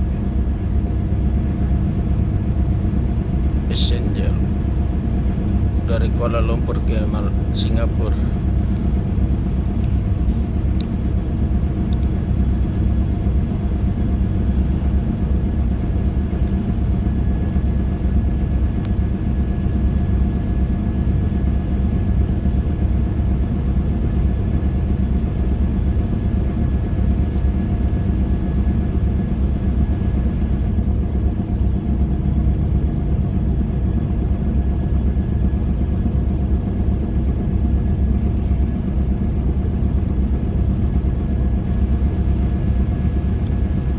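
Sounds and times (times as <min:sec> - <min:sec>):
faint constant whine: 0:00.0 - 0:43.9
low engine drone: 0:00.0 - 0:43.9.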